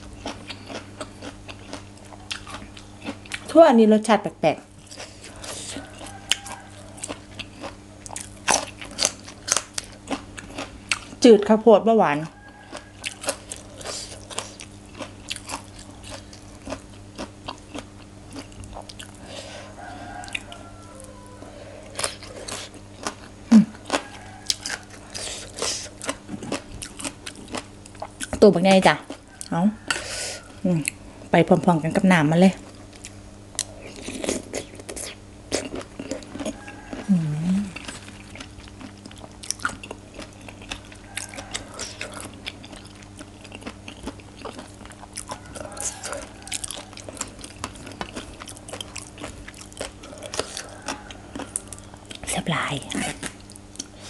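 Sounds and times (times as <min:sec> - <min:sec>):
crisp chewing crunches: 0:00.0 - 0:03.6, 0:04.7 - 0:11.3, 0:12.3 - 0:31.0, 0:32.5 - 0:54.0.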